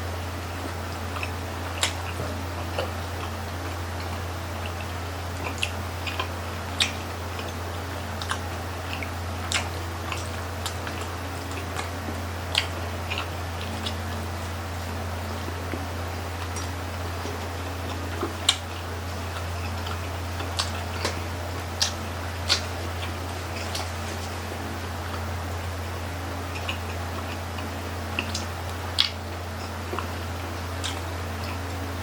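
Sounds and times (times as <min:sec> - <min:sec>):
close chewing: 0:00.0 - 0:32.0
steady low hum: 0:00.0 - 0:32.0
mouth clicks and smacks: 0:01.1 - 0:03.4, 0:04.0 - 0:07.6, 0:08.2 - 0:14.2, 0:15.7 - 0:25.3, 0:26.5 - 0:31.8.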